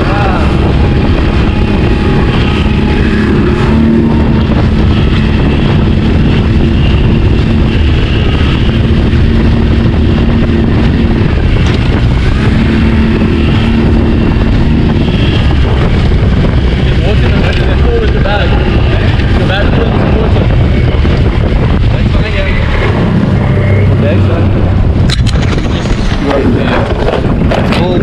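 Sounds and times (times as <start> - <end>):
heavy wind: 0.0 - 28.0
outboard motor running: 0.0 - 28.0
water noise: 0.0 - 28.0.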